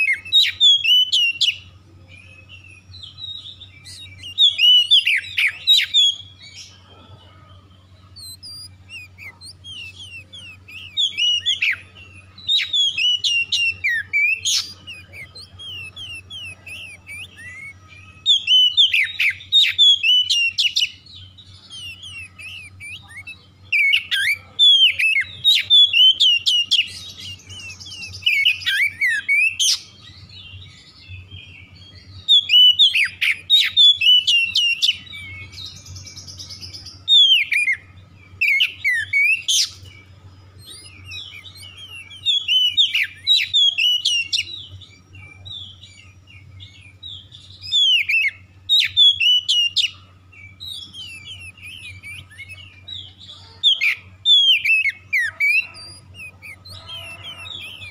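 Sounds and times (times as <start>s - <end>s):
bird singing whistled notes: 0.0s - 57.9s.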